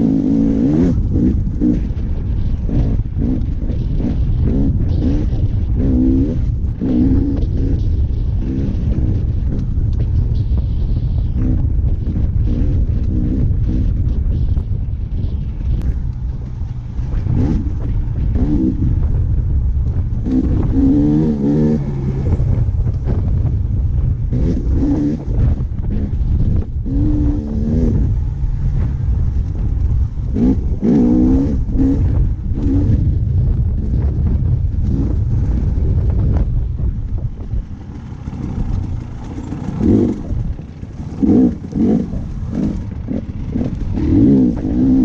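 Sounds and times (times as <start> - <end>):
dirt bike engine revving: 0.0 - 45.0
wind rumble on microphone: 0.0 - 45.0.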